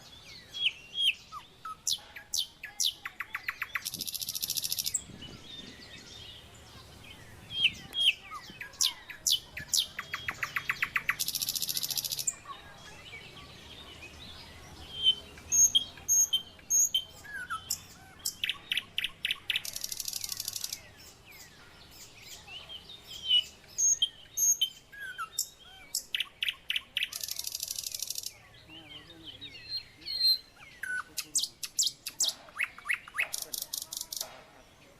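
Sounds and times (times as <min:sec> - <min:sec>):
birds chirping and trilling: 0:00.0 - 0:34.9.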